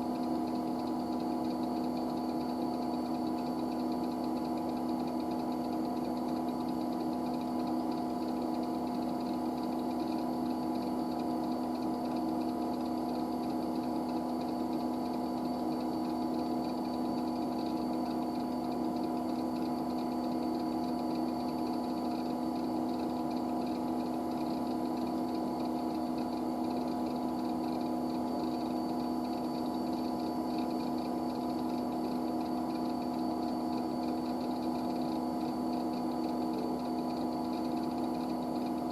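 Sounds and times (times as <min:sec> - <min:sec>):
machine hum with held tones: 0:00.0 - 0:38.9.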